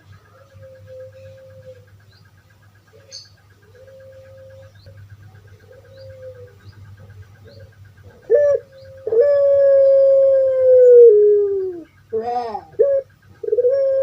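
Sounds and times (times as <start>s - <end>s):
dove cooing: 0.0s - 2.2s, 2.8s - 14.0s.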